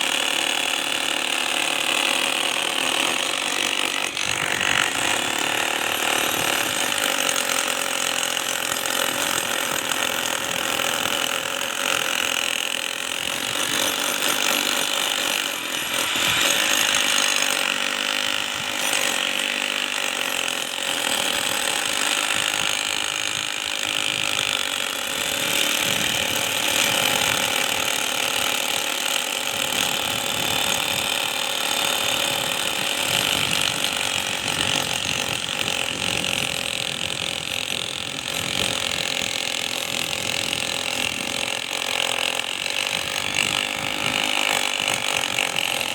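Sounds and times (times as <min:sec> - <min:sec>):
power tool rattling on concrete: 0:00.0 - 0:45.9.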